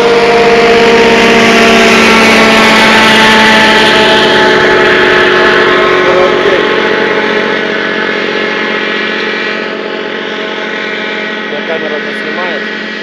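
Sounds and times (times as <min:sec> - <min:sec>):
motorboat engine passing: 0:00.0 - 0:13.0.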